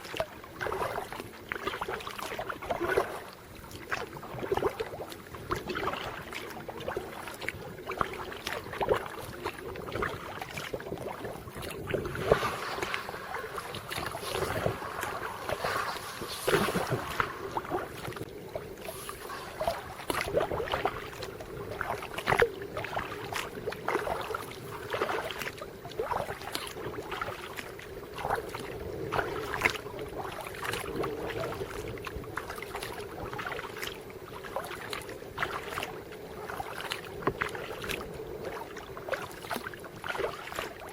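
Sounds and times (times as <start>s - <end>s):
kayak paddle splashing: 0.0s - 40.9s.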